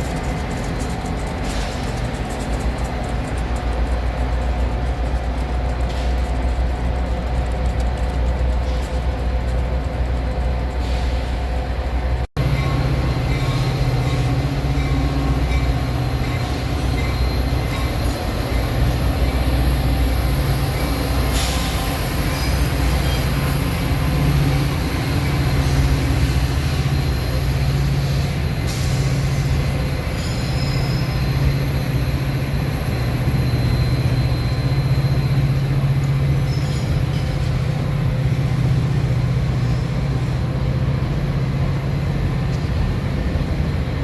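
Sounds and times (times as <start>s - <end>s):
train running on rails: 0.0s - 44.0s.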